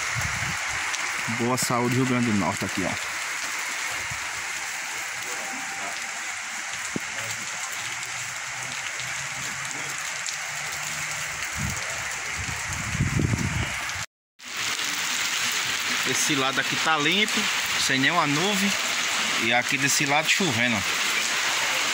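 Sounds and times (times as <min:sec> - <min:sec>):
rain on cobblestone street: 0:00.0 - 0:21.9.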